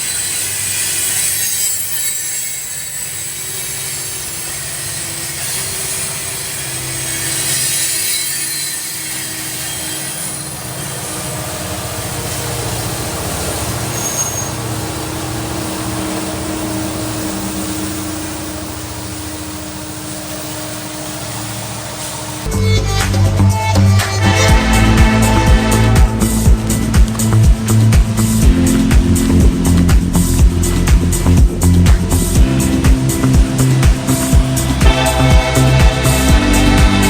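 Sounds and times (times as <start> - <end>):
train wheels rumbling on track: 0.0 - 37.0
wheel squeal: 0.0 - 37.0.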